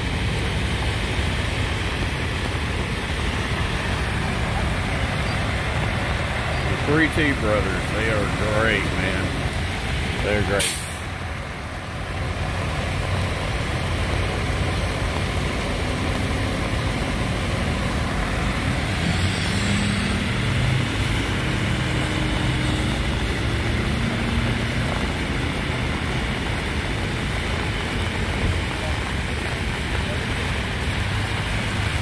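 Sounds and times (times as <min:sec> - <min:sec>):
faint engine hum: 0:00.0 - 0:32.0
vehicle engines idling: 0:00.0 - 0:32.0
wet road hiss: 0:00.0 - 0:32.0.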